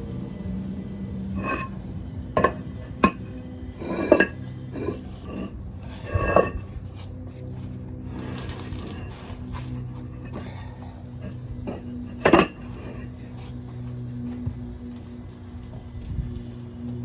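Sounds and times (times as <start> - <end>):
steady low hum: 0.0 - 17.0
concrete pavers clinking: 1.4 - 1.8, 2.4 - 16.7.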